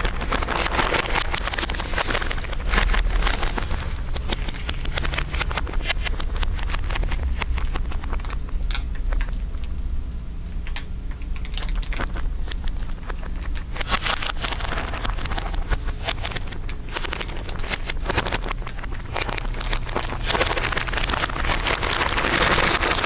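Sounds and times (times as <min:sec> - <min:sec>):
crinkling crackles: 0:00.0 - 0:23.0
steady low rumble: 0:00.0 - 0:23.0.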